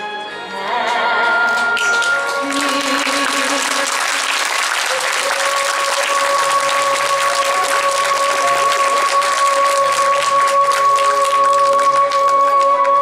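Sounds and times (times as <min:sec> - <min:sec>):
music with long held notes: 0:00.0 - 0:13.0
audience applauding: 0:01.5 - 0:13.0.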